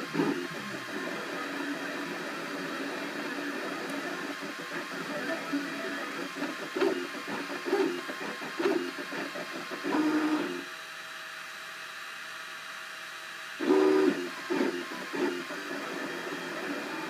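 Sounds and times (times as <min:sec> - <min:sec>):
stepper motors whining: 0:00.0 - 0:10.7, 0:13.6 - 0:17.0
printer humming: 0:00.0 - 0:17.0.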